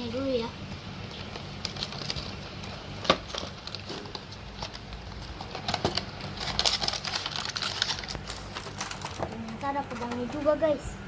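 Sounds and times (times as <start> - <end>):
packaging rustling: 1.1 - 10.5
packaging clicks: 1.2 - 10.4.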